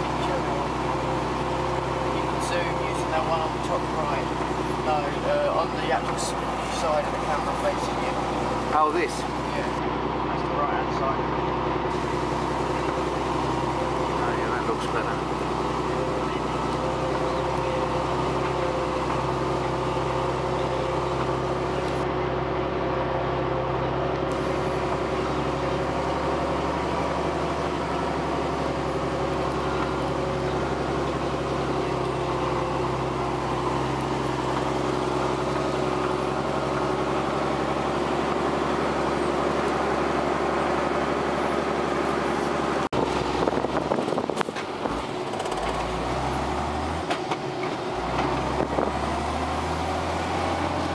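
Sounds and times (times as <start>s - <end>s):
rough engine and cab noise: 0.0s - 50.9s
tractor engine drone in cab: 0.0s - 50.9s.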